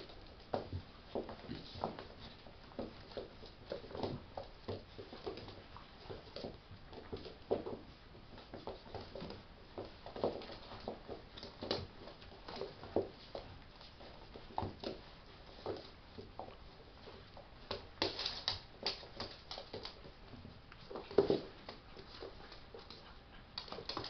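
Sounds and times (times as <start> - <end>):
paws scuffling on wooden floor: 0.0 - 24.0
soft dog noises: 0.0 - 24.0.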